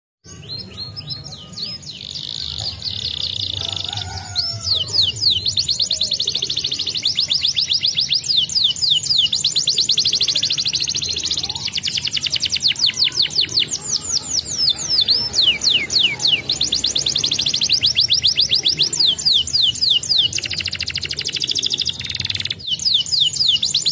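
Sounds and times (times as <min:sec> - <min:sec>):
canary singing: 0:00.2 - 0:23.9.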